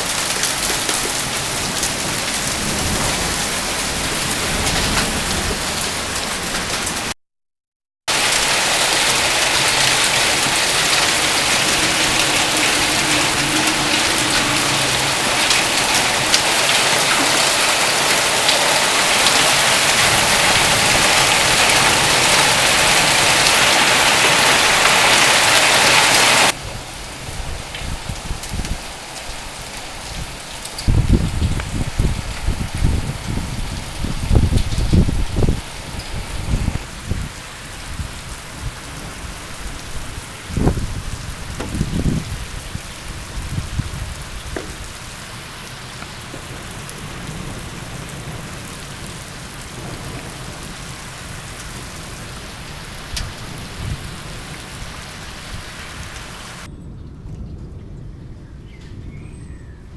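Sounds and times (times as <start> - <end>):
heavy rain and hail: 0.0 - 7.2, 8.1 - 56.7.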